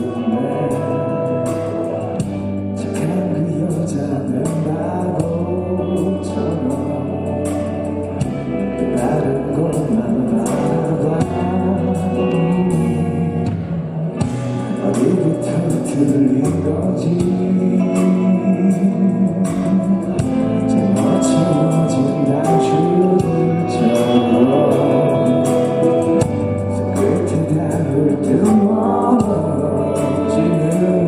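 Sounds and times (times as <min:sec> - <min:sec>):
band with percussion: 0:00.0 - 0:31.0
man singing pop ballad: 0:00.0 - 0:31.0.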